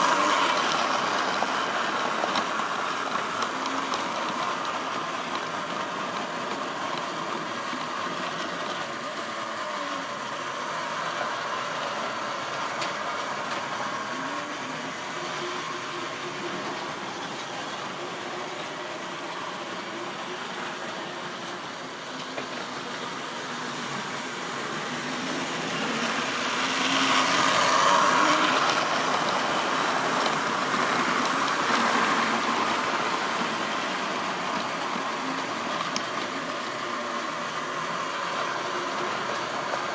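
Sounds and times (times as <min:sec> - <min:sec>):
model train motor hum: 0:00.0 - 0:39.9
wheels rolling on rail: 0:00.0 - 0:39.9.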